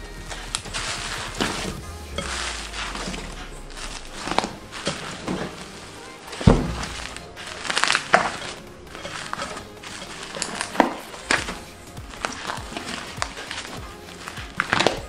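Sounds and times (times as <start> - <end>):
background music: 0.0 - 15.0
slime crackling and squelching: 0.0 - 15.0.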